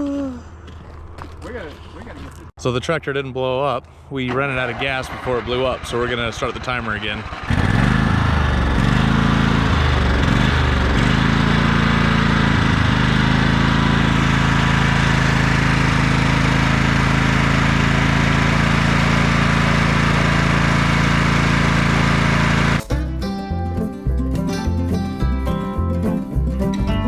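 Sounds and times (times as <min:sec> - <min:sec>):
lawn tractor engine running: 0:04.3 - 0:27.0.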